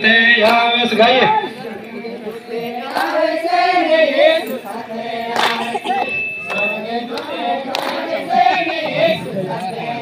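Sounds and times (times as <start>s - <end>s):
voices singing devotional song: 0.1s - 10.0s.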